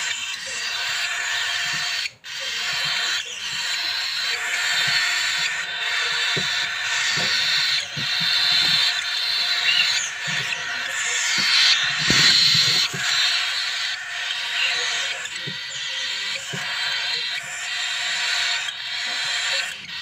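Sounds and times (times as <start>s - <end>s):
bird chicks begging chorus: 0.0s - 20.0s.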